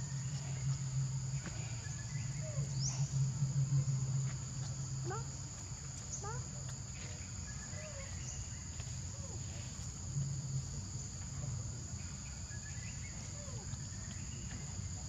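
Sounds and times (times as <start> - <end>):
insects droning: 0.0 - 15.0
low rumble: 0.0 - 15.0.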